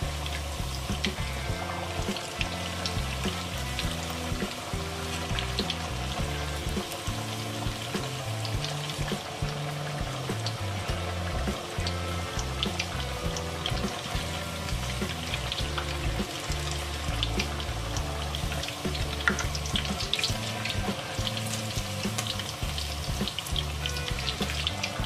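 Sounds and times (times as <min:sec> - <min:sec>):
background music: 0:00.0 - 0:25.0
food deep-frying in hot oil: 0:00.0 - 0:25.0.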